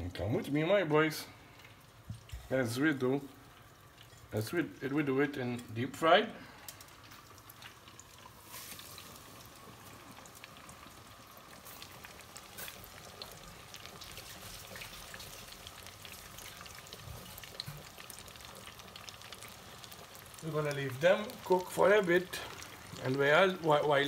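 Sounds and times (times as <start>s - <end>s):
food deep-frying in oil: 0.0s - 24.0s
oil crackles: 1.4s - 24.0s.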